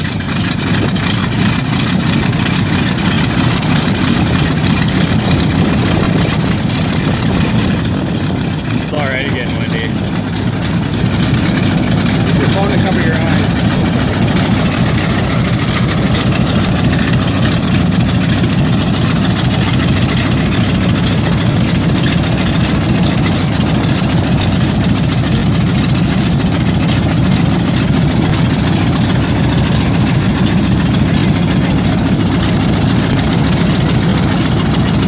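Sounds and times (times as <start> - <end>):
piston aircraft engine idling: 0.0 - 35.0.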